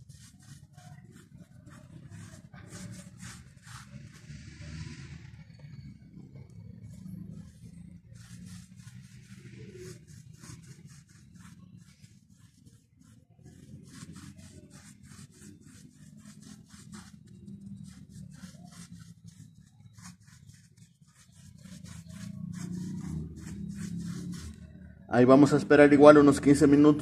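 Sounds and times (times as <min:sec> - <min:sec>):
brush scrubbing concrete: 0:00.0 - 0:05.3, 0:06.4 - 0:27.0.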